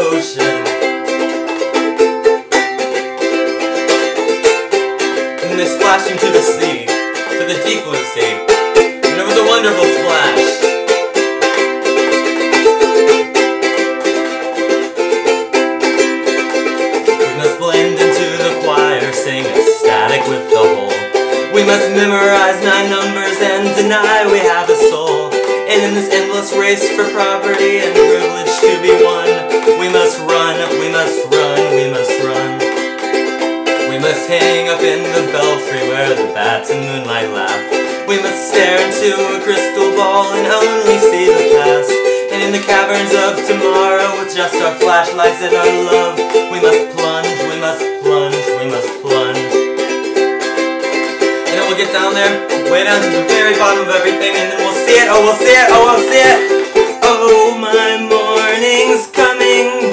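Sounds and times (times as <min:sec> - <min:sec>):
ukulele strumming chords: 0:00.0 - 0:59.9.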